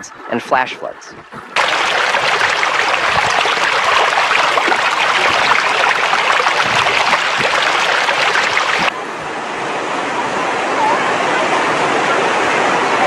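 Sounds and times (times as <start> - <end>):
floodwater rushing: 1.6 - 13.0.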